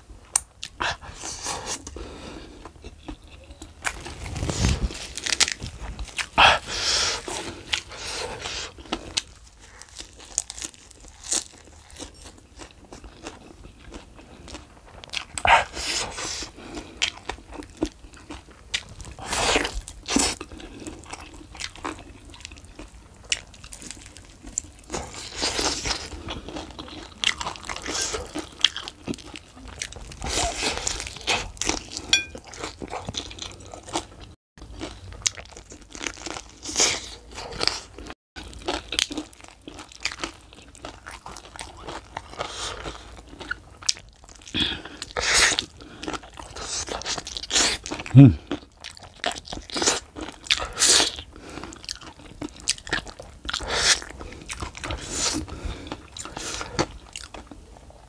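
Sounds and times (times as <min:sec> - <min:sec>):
person chewing crunchy food: 0:00.3 - 0:58.0.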